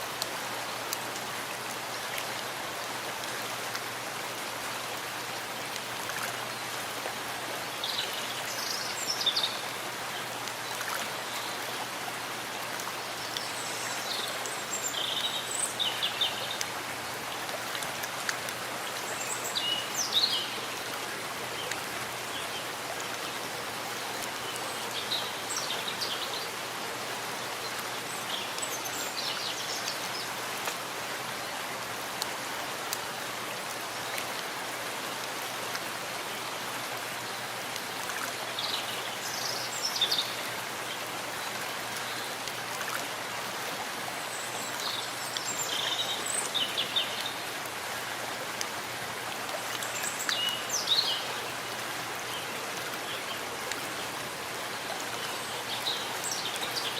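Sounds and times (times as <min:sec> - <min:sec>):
rain falling on forest: 0:00.0 - 0:56.9.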